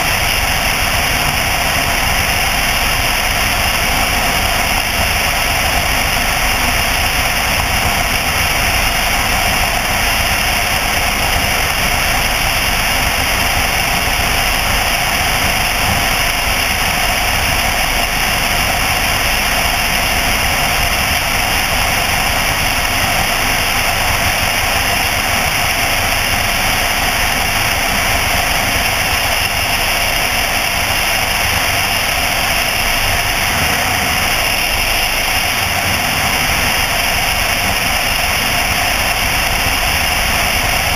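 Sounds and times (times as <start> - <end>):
light aircraft engine and propeller: 0.0 - 40.9
rushing airflow: 0.0 - 40.9.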